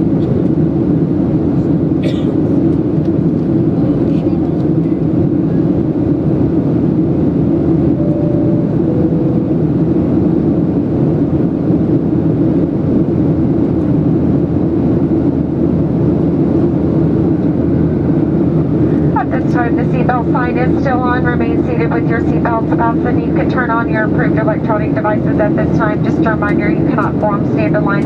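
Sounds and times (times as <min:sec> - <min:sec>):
jet engines droning: 0:00.0 - 0:28.0.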